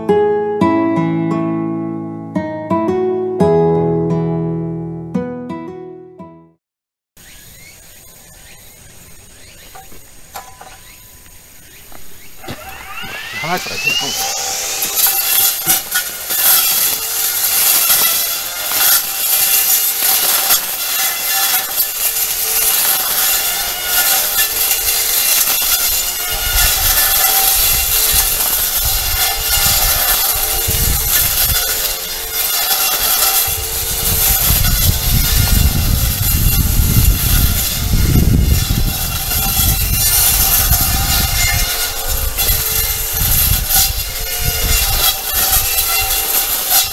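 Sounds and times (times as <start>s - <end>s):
brush cutter running: 7.2s - 46.9s.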